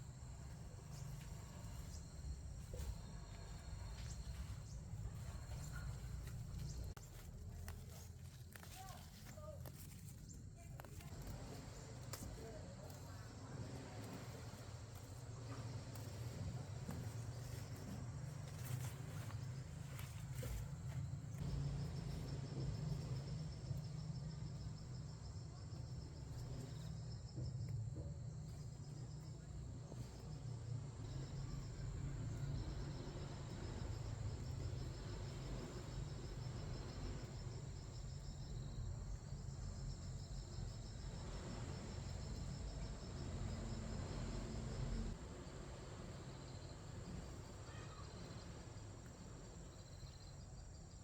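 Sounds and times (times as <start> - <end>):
insects trilling: 0.0 - 51.0.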